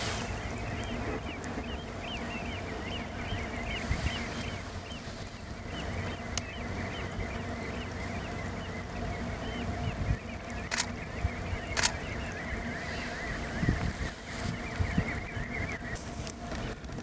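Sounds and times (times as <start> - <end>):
shorebirds whistling calls: 0.0 - 16.0.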